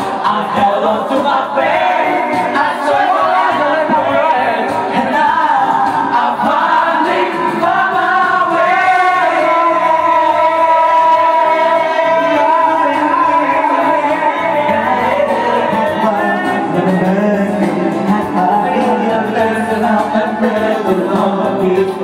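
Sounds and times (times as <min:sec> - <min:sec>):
karaoke backing track: 0:00.0 - 0:22.0
men singing into microphones: 0:00.0 - 0:22.0.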